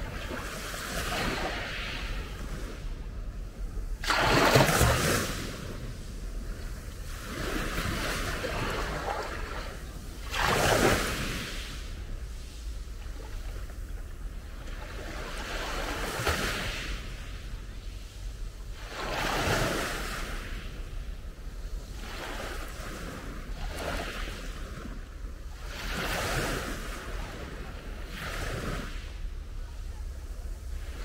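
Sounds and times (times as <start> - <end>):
waves washing up a gravel beach: 0.0 - 17.8, 21.6 - 31.0.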